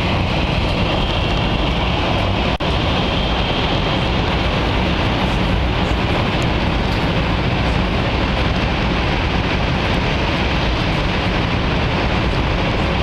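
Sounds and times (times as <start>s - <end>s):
train rumble inside passenger car: 0.0s - 13.0s.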